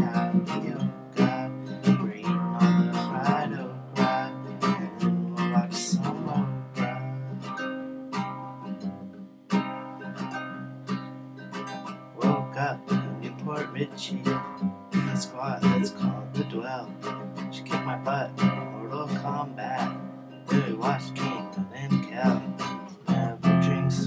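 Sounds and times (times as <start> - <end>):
classical guitar chords strummed: 0.0 - 24.0.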